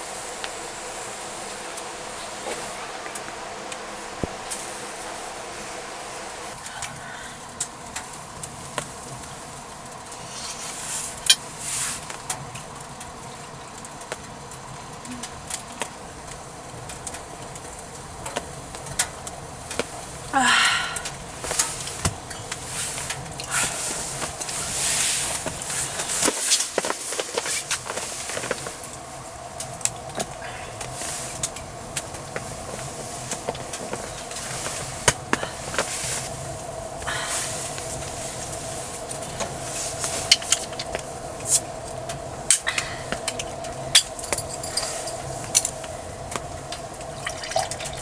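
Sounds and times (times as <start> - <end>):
faint hum: 0.0 - 48.0.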